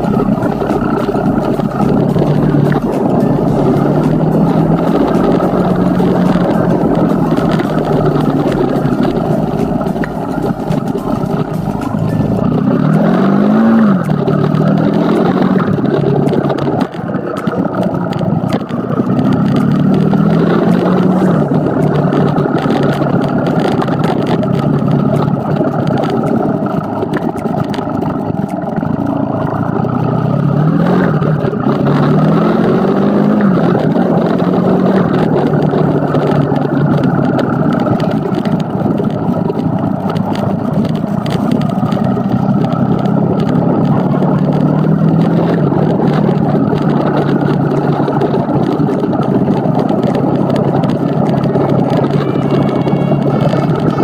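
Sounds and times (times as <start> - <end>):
road noise: 0.0 - 54.0
vehicle engine accelerating: 0.0 - 54.0.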